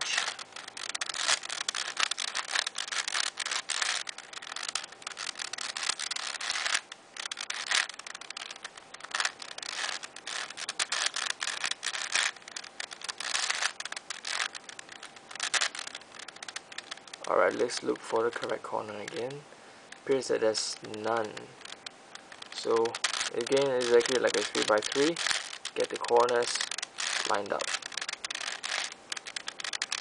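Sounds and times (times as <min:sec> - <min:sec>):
puzzle cube clicking: 0:00.0 - 0:30.0.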